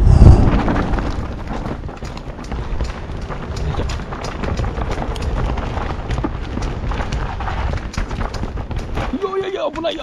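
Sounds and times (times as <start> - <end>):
wind noise on helmet: 0.0 - 9.0
bike tyres on dirt trail: 0.0 - 10.0
rattling clicks and knocks from bike: 0.7 - 10.0.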